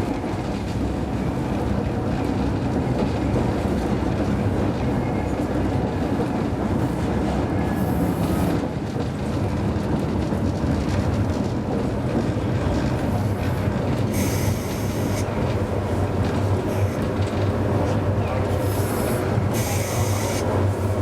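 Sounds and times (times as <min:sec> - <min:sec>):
tram rumbling on rails: 0:00.0 - 0:21.0.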